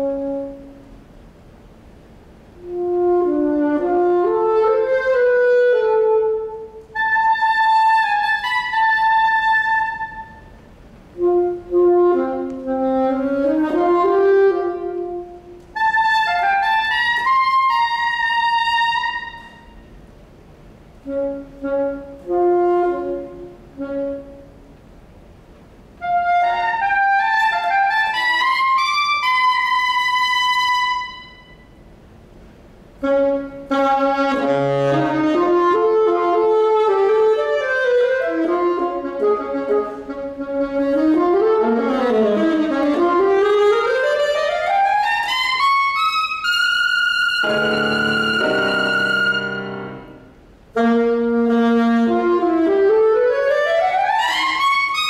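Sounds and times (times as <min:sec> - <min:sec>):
solo saxophone: 0:00.0 - 0:01.3, 0:02.3 - 0:55.0.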